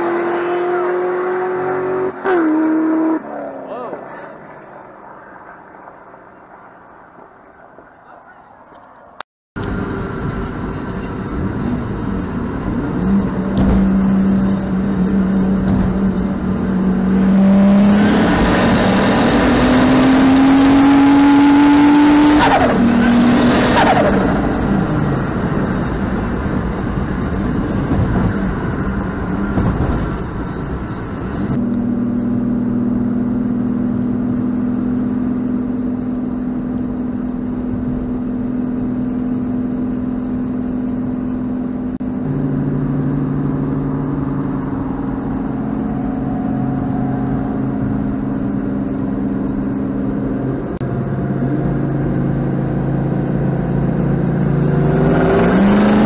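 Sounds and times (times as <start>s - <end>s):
car engine accelerating hard: 0.0s - 5.7s, 9.6s - 56.0s.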